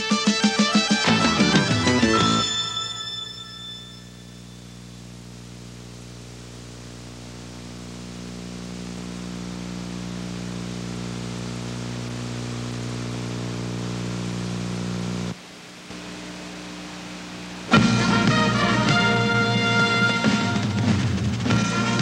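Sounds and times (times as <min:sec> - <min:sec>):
electrical hum: 0:00.0 - 0:22.0
tape hiss: 0:00.0 - 0:22.0.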